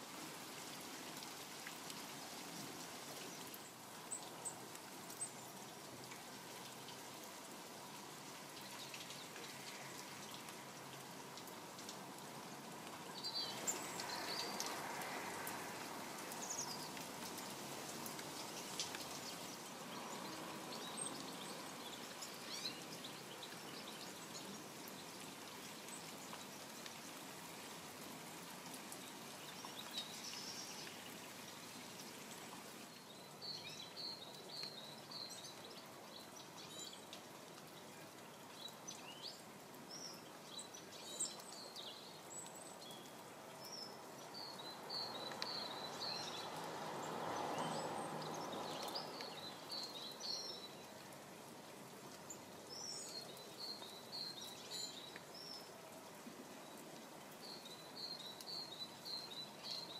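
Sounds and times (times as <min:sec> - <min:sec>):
steady rain: 0:00.0 - 0:59.9
small birds chirping: 0:02.1 - 0:27.4, 0:28.0 - 0:59.9.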